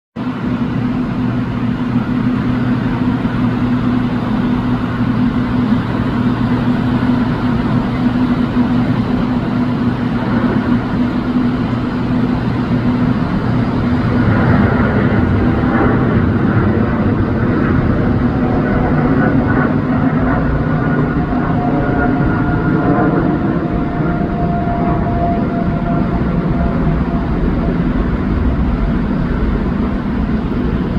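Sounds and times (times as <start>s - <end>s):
jet engines humming: 0.2s - 30.9s.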